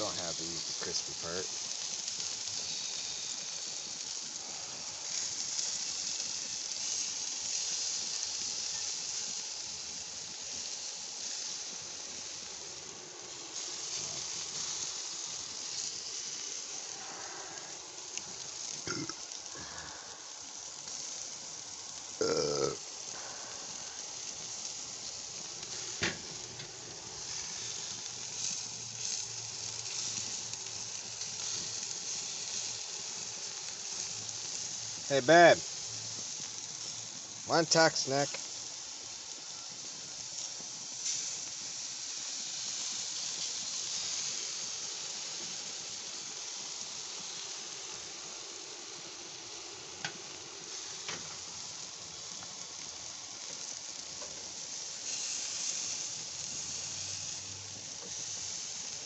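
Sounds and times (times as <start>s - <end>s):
chicken sizzling on a grill: 0.0s - 59.0s.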